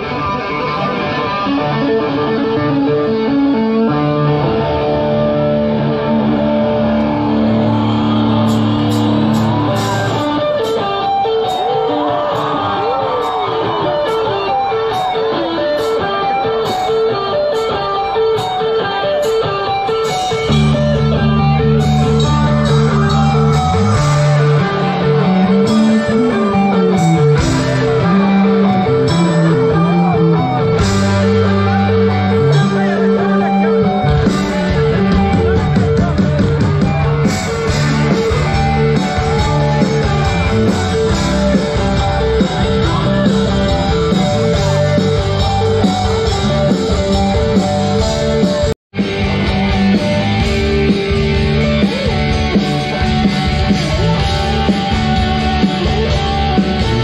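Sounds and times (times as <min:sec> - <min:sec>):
bass line: 0:00.0 - 0:10.6, 0:20.3 - 0:57.0
drums: 0:00.0 - 0:57.0
electric guitar riff: 0:00.0 - 0:57.0.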